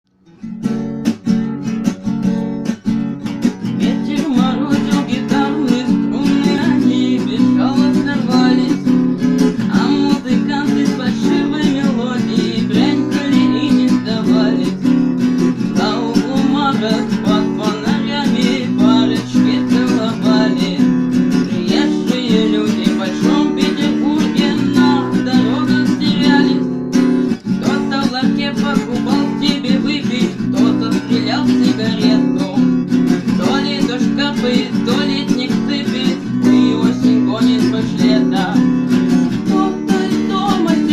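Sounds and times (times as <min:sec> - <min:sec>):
acoustic guitar strumming: 0:00.1 - 0:40.9.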